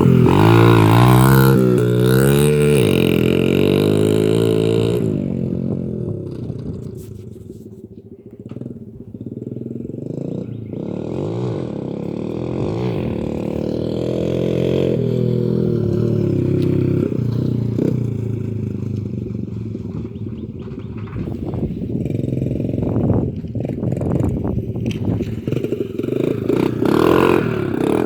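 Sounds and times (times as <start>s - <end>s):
dirt bike engine revving: 0.0s - 6.9s, 8.4s - 28.0s.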